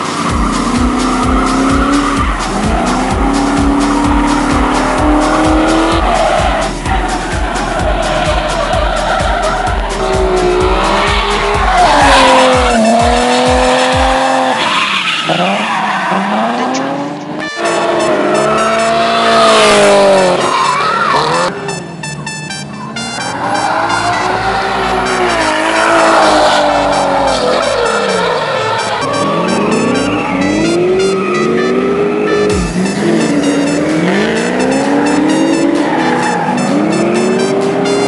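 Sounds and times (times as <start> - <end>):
tyres squealing: 0.0 - 22.1, 23.3 - 38.0
car engines revving: 0.0 - 38.0.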